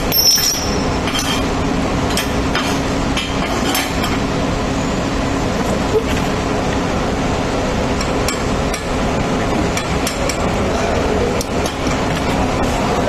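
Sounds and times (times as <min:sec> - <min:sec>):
noisy background hum: 0:00.0 - 0:13.0.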